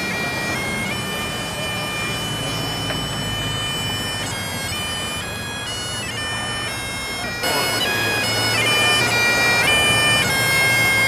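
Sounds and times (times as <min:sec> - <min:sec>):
bagpipes playing a tune: 0:00.0 - 0:11.0.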